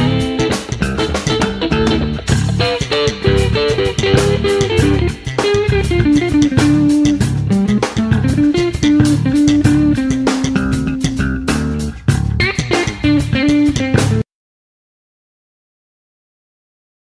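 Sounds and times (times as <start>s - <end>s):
drums with steady beat: 0.0s - 14.2s
guitar melody: 0.0s - 14.2s
bass guitar: 0.0s - 14.3s.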